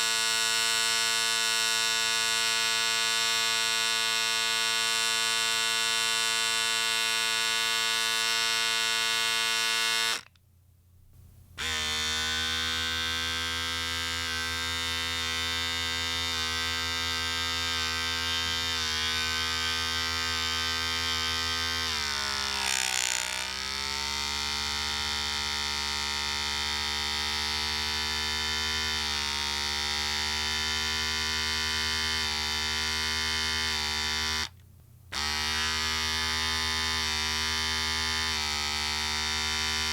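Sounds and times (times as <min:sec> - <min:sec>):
electric shaver buzzing: 0:00.0 - 0:10.3, 0:11.6 - 0:39.9.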